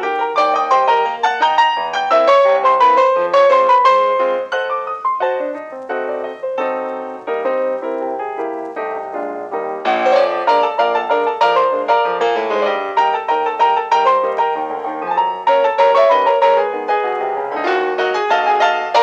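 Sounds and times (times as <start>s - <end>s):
piano playing quick repeated notes: 0.0s - 19.0s.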